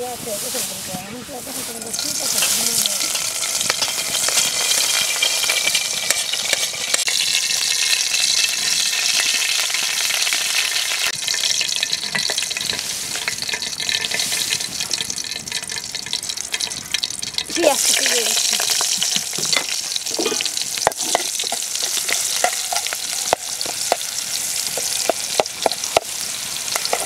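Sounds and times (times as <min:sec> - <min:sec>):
hot oil sizzling and crackling: 0:00.0 - 0:27.0.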